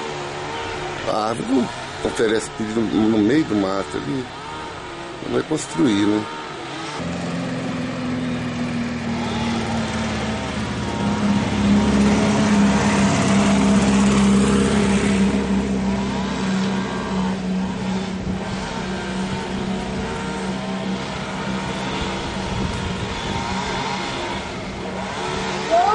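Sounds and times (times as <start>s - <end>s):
chainsaw running at high revs: 0.0s - 25.9s.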